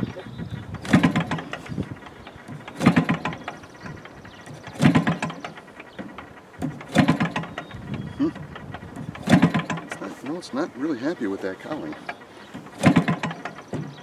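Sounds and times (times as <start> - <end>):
model airplane engine running rough: 0.0 - 14.0.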